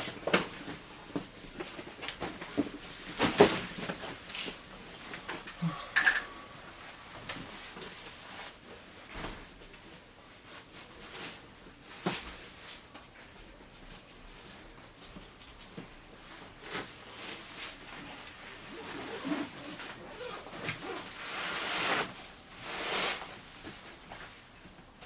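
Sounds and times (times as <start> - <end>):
rustling and handling noises: 0.0 - 25.0.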